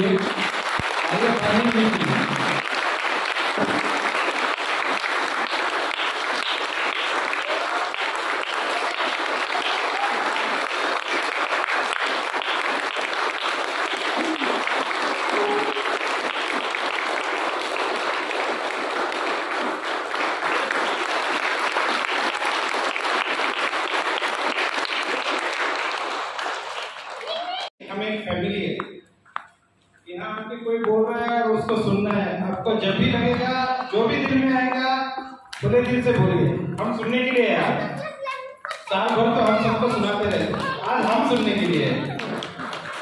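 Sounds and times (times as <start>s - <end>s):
audience clapping: 0.0s - 27.8s, 30.8s - 43.0s.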